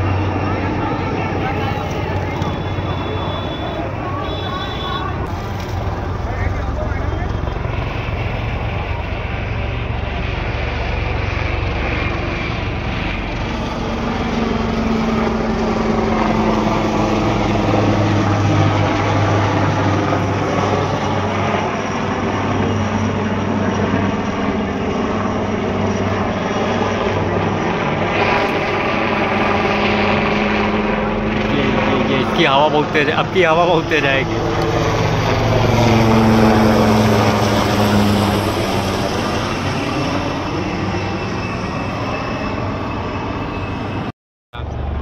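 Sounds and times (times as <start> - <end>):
aircraft engine drone overhead: 0.0 - 45.0.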